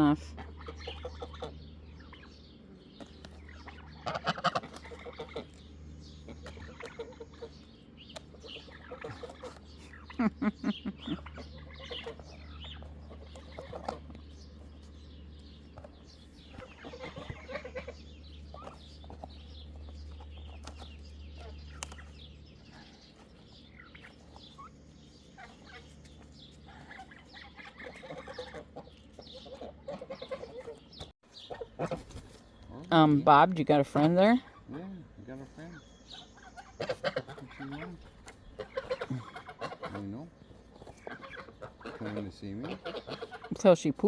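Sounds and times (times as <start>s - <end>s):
chickens clucking: 0.0s - 33.4s, 34.0s - 44.0s
low steady hum: 0.0s - 44.0s.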